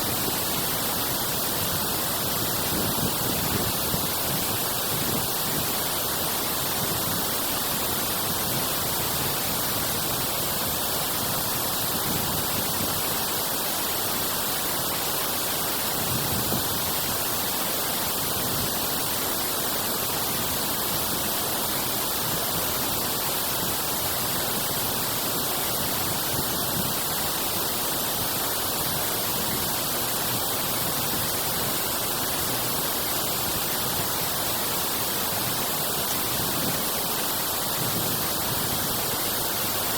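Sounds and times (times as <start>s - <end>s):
water rushing through outlet: 0.0s - 39.9s.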